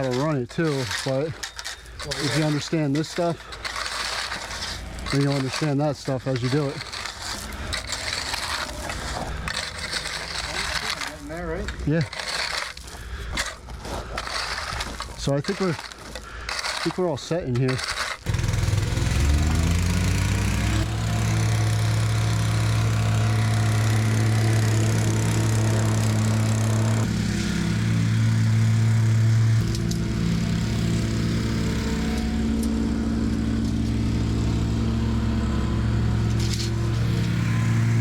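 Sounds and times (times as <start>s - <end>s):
engine running: 0.0s - 16.8s, 18.2s - 38.0s.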